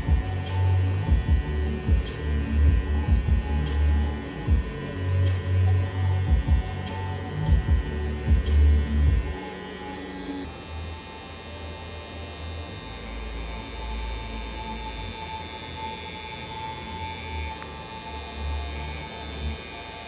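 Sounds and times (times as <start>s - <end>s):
tattoo machine buzzing: 0.0s - 20.0s.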